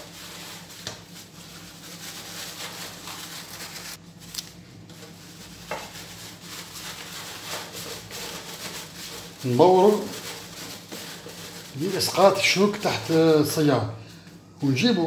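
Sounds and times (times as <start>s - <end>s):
rubbing and scraping in a sieve: 0.0s - 15.0s.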